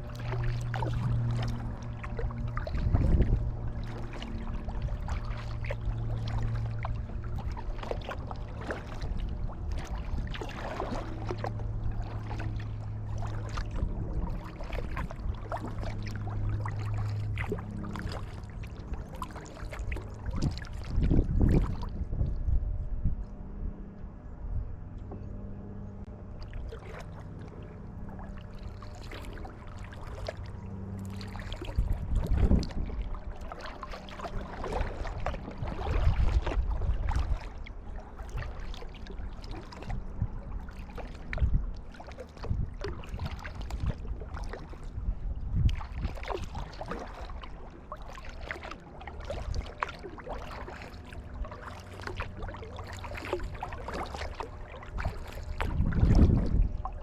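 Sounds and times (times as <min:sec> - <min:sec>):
paddle splashing in water: 0:00.0 - 0:22.0, 0:26.2 - 0:57.0
water surging against hull: 0:00.0 - 0:22.6, 0:26.0 - 0:57.0
steady low hum: 0:00.0 - 0:57.0.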